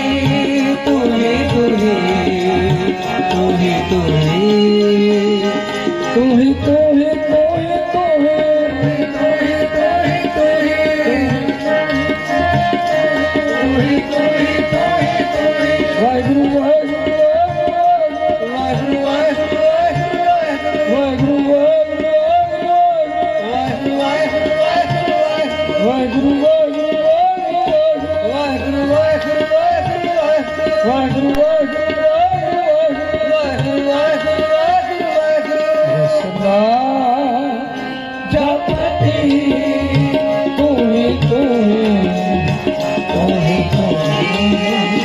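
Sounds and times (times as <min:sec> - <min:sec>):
ornamented melody line: 0:00.0 - 0:45.0
tabla rhythm: 0:00.0 - 0:45.0.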